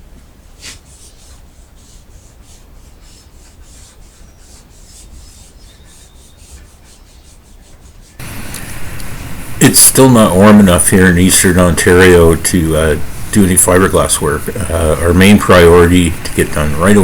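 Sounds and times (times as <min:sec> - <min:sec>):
cloth rubbing on wood: 0:00.4 - 0:17.0.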